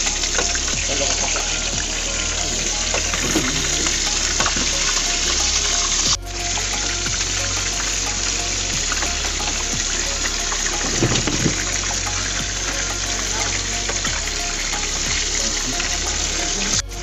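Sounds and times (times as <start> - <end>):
oil sizzling while deep-frying: 0.0 - 16.8.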